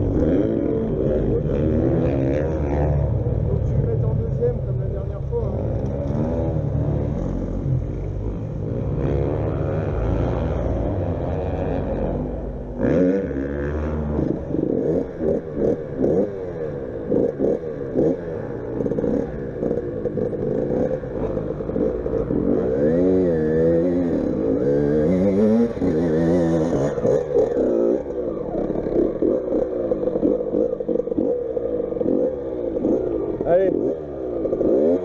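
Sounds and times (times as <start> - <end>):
motorbike engine revving: 0.0 - 35.0.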